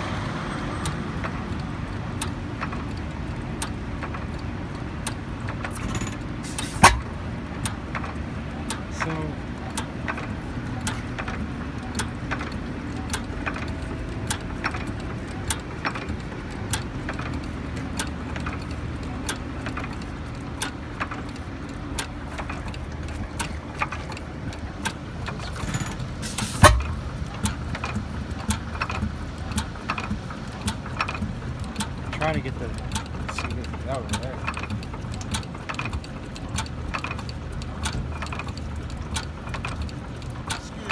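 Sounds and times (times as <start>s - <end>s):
sharp regular engine clicks: 0.0s - 40.9s
stationary engine drone: 0.0s - 40.9s.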